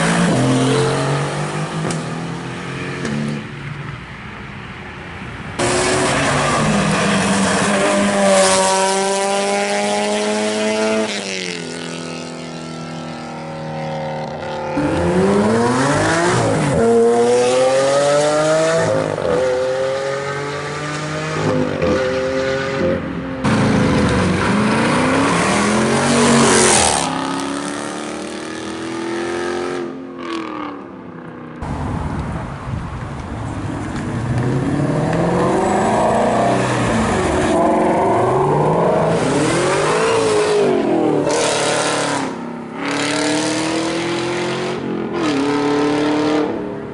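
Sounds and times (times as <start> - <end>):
cars accelerating hard: 5.6 - 30.8, 33.9 - 46.8.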